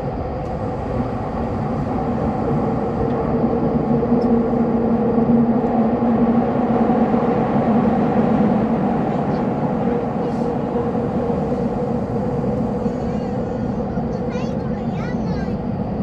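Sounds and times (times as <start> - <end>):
subway train wheels rumbling: 0.0 - 16.0.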